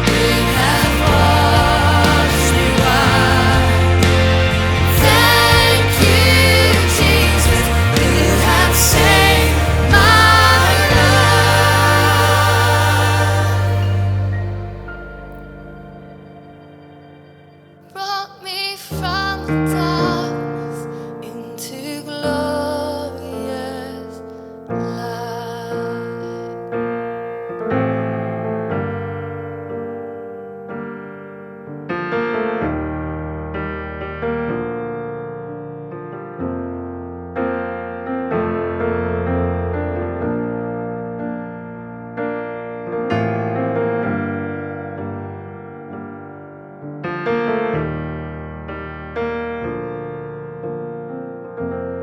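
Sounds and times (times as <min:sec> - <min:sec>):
soft piano chords: 0:00.0 - 0:52.0.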